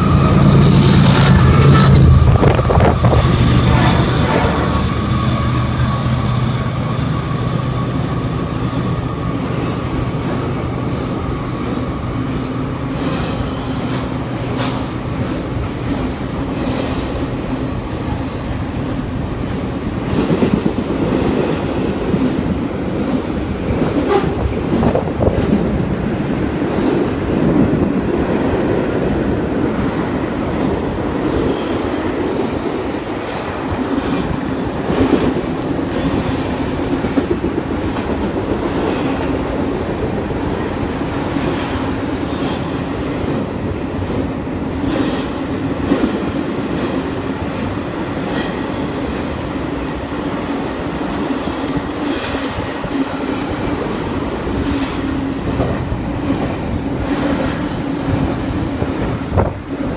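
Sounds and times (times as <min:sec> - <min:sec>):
diesel locomotive engine hum: 0:00.0 - 0:59.9
train wheels clicking on rails: 0:00.0 - 0:59.9.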